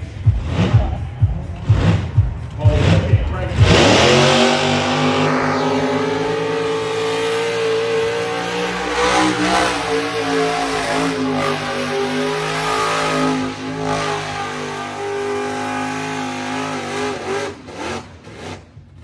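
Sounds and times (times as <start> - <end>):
car engine at high revs: 0.0 - 19.0.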